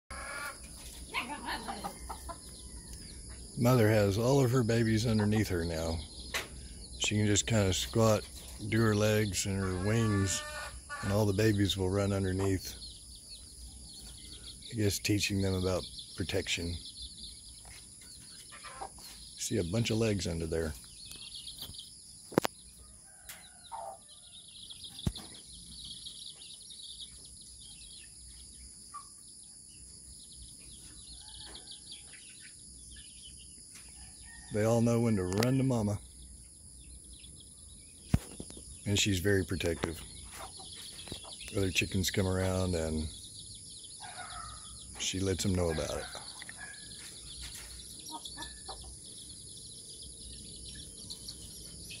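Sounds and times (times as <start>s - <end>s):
chick peeps: 0.1s - 52.0s
high-pitched bird chirping: 0.1s - 52.0s.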